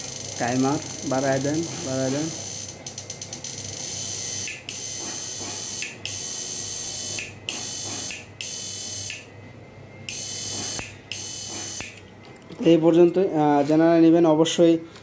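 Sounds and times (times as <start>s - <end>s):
high-pitched electronic buzz: 0.0s - 12.0s.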